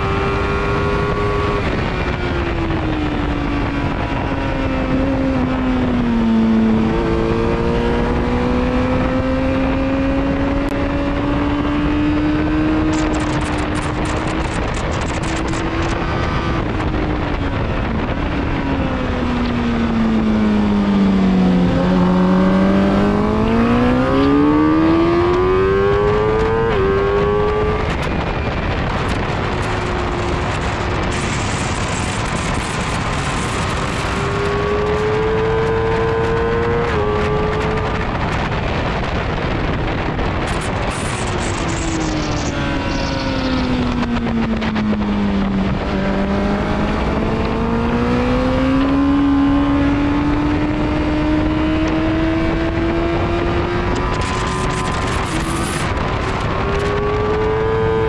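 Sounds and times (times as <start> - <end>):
race car engine at speed: 0.0 - 58.0
wind noise: 0.0 - 58.0.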